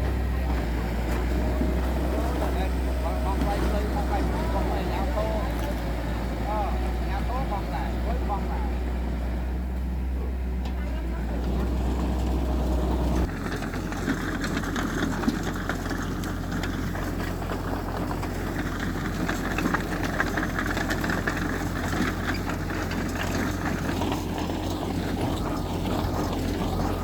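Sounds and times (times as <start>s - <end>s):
heavy machinery diesel engine: 0.0s - 27.0s.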